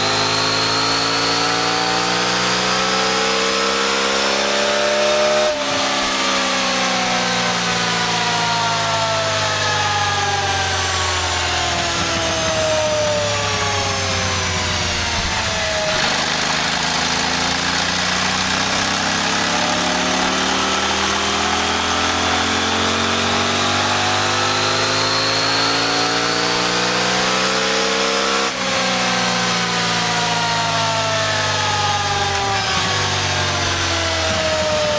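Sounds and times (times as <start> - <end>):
dynamometer drum and tyre noise: 0.0 - 34.9
motorcycle engine revving: 0.0 - 34.9.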